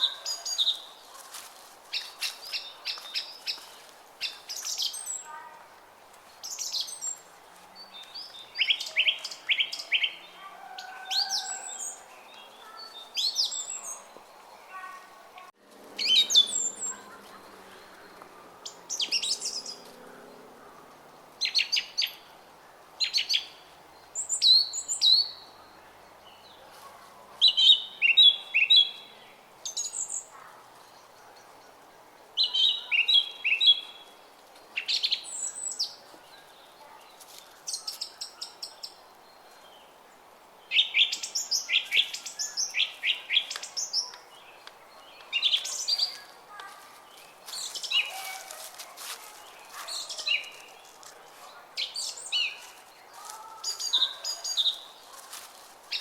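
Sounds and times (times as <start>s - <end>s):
songbirds chirping and singing: 0.0s - 5.5s, 6.3s - 56.0s.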